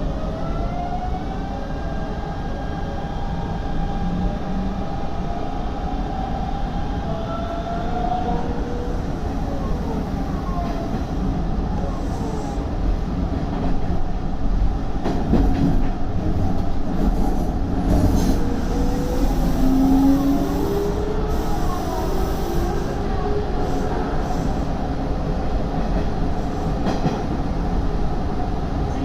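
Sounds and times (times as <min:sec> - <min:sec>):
electric train rumble and whine: 0:00.0 - 0:29.0.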